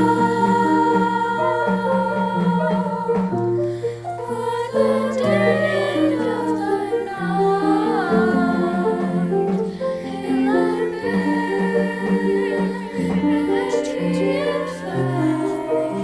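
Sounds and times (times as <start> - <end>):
voices singing over held chords: 0.0 - 16.0.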